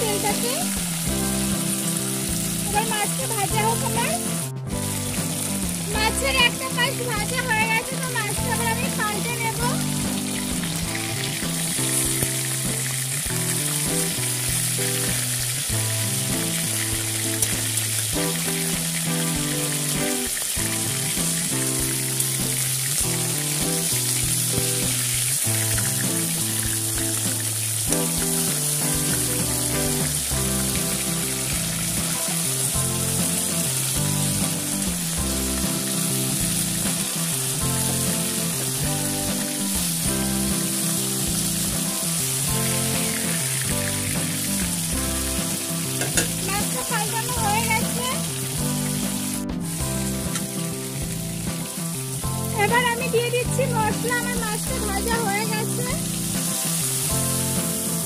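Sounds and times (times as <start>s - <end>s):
background music sustained notes: 0.0s - 58.0s
fish sizzling in oil: 0.0s - 58.0s.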